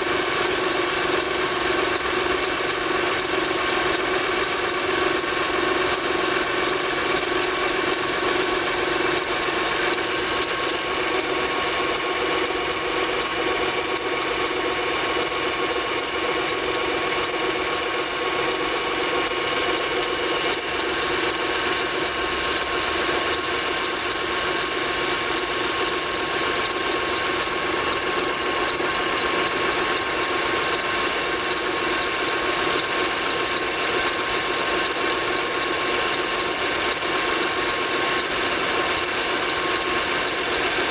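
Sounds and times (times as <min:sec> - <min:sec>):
engine ticking knock: 0:00.0 - 0:40.9.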